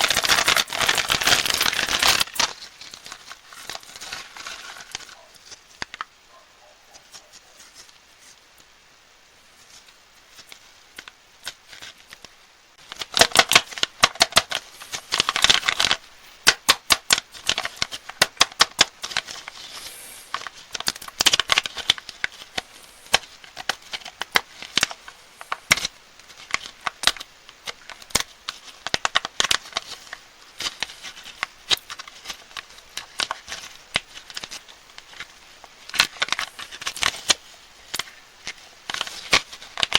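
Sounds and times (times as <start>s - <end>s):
plastic candy wrappers crinkling: 0.0s - 6.1s, 9.6s - 39.9s.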